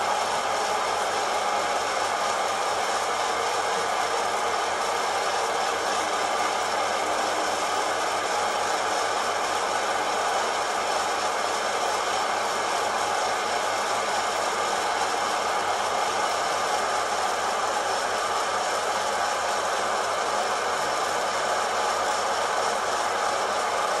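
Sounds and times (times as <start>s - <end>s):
coffee roaster fan blowing: 0.0s - 24.0s.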